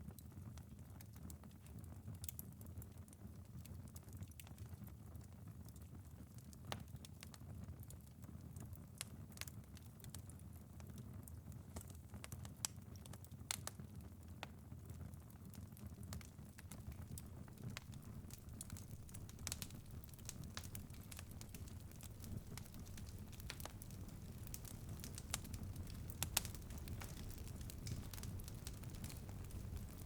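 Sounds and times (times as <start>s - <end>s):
wood fire crackling and popping: 0.1s - 30.0s.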